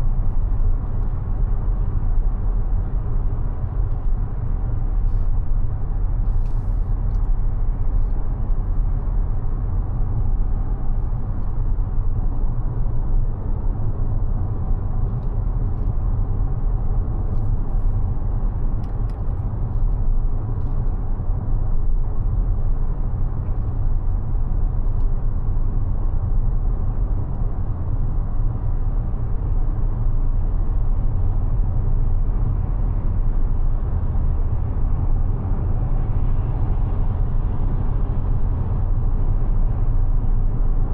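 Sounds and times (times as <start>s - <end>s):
road and tyre noise: 0.0s - 40.9s.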